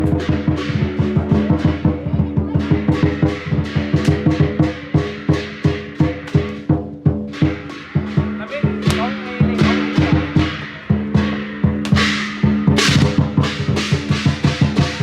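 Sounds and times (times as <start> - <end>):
rapid drum strikes: 0.0 - 15.0.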